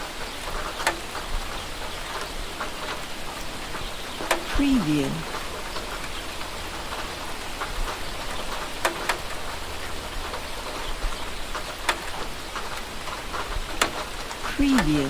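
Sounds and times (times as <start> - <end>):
steady rain falling: 0.0 - 15.0
water drips landing close: 0.0 - 15.0.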